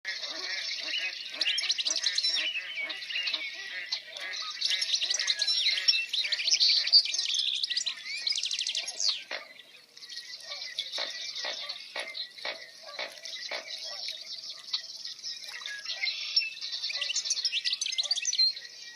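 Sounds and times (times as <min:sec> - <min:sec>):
low repeating bird call: 0:00.1 - 0:18.9
songbirds chirping and singing: 0:00.1 - 0:18.9.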